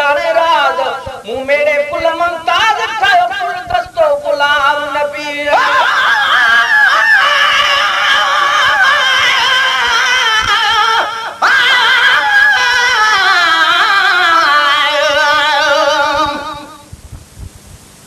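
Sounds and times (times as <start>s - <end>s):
person singing with vibrato: 0.0s - 17.0s.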